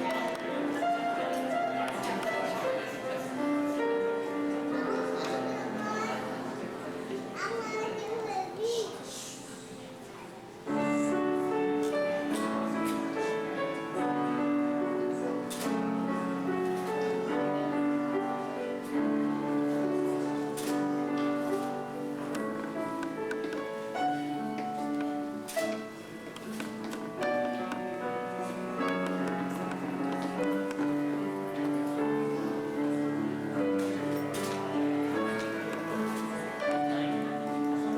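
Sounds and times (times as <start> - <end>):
instrumental piano music: 0.0 - 8.2, 10.6 - 37.9.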